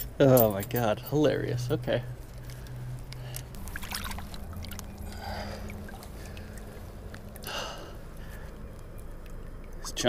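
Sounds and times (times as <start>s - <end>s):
steady low hum: 0.0s - 10.0s
water splashing and trickling: 0.3s - 10.0s.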